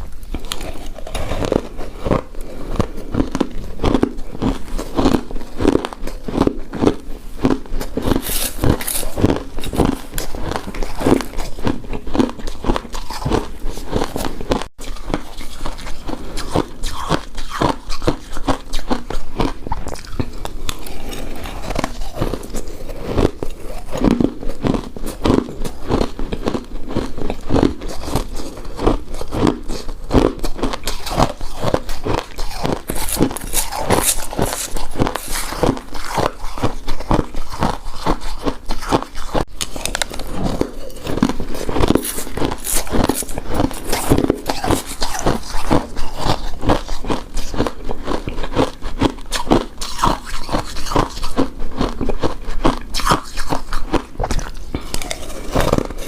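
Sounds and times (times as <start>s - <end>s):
wet sticky chewing: 0.1s - 56.0s.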